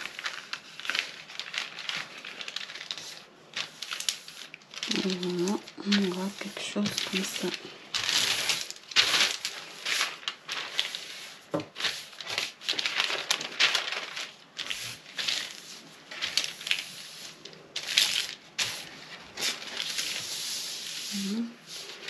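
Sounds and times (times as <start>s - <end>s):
fabric rustling and swishing: 0.0s - 22.0s.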